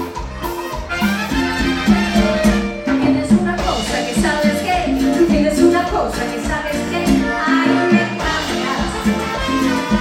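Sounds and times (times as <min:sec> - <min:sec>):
live dance orchestra playing: 0:00.0 - 0:10.0.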